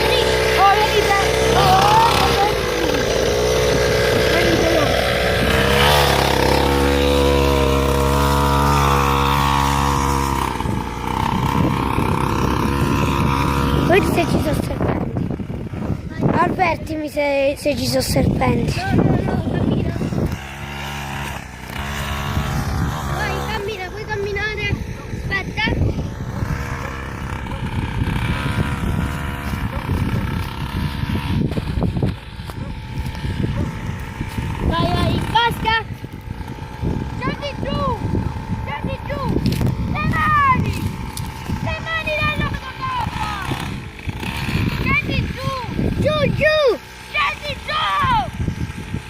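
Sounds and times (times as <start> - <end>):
motocross bike engine running: 0.0 - 49.0
wind buffeting microphone: 0.0 - 49.0.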